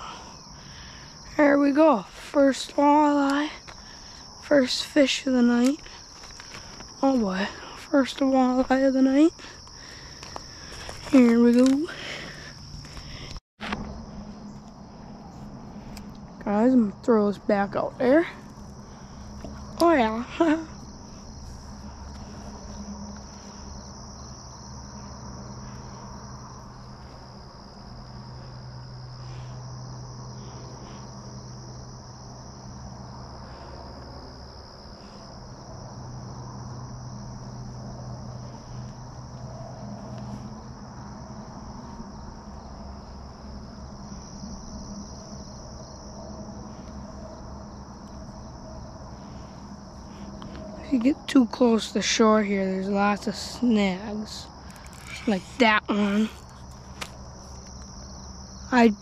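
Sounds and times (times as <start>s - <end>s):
crickets trilling: 0.0s - 59.0s
low steady hum: 0.0s - 59.0s.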